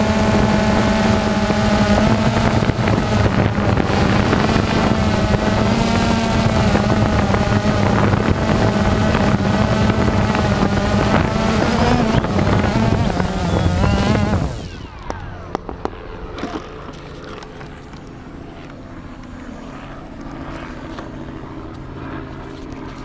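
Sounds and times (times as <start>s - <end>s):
drone propellers whining: 0.0s - 23.0s.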